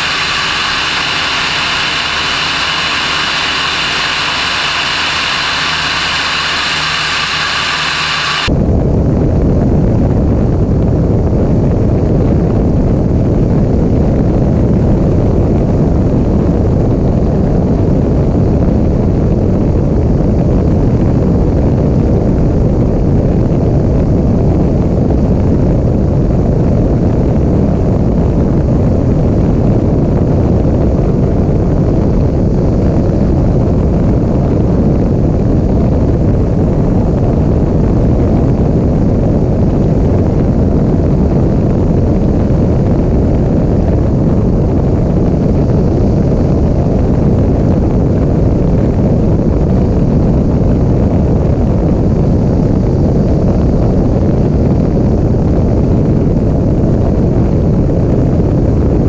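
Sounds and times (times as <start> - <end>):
propeller plane engine and wind: 0.0 - 59.0.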